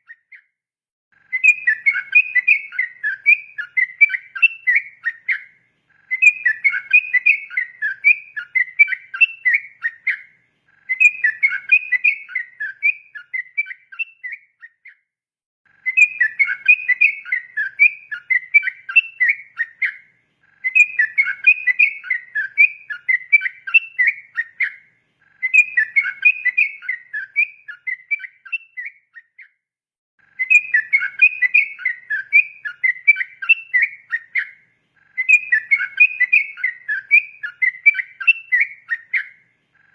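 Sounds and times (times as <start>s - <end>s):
bird singing warbling song: 0.0s - 0.6s, 1.2s - 15.1s, 15.7s - 29.6s, 30.2s - 39.9s.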